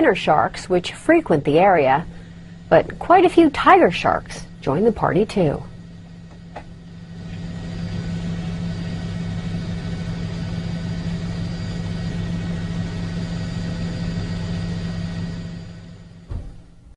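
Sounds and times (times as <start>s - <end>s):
engine hum: 0.1s - 16.8s.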